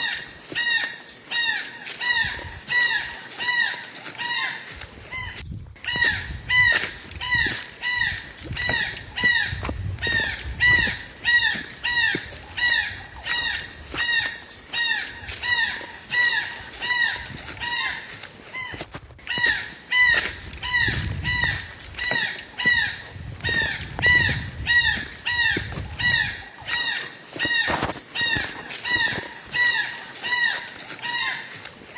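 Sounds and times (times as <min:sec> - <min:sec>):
birds calling loudly: 0:00.0 - 0:31.9.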